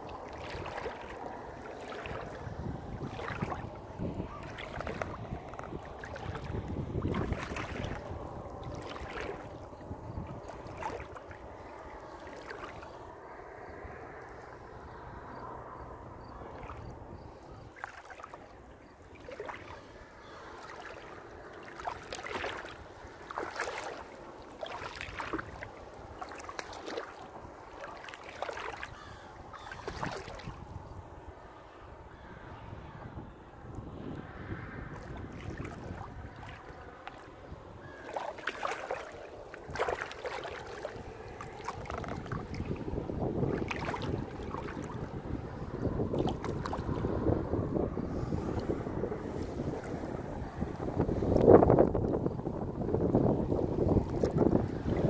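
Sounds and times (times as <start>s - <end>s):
seawater sloshing and splashing: 0.0s - 31.9s, 33.6s - 55.0s
wind on the microphone: 0.0s - 55.0s.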